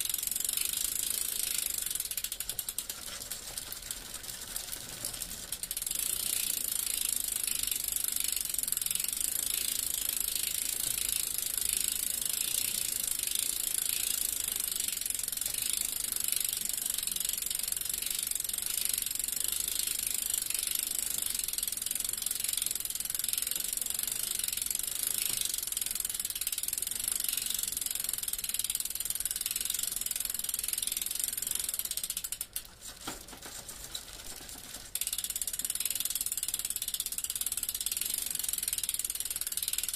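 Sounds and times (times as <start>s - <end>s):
bicycle freewheel ratchet clicking: 0.0s - 32.8s, 33.9s - 39.9s.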